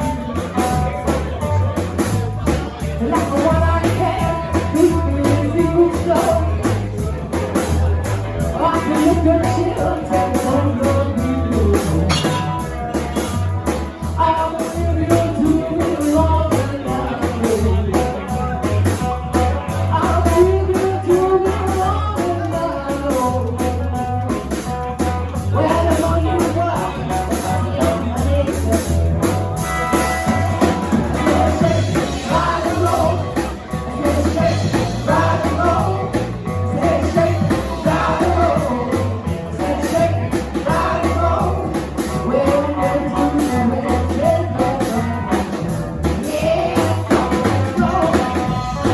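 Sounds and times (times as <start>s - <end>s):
live rock and roll band: 0.0s - 48.9s
person singing: 8.4s - 29.1s, 30.0s - 48.9s.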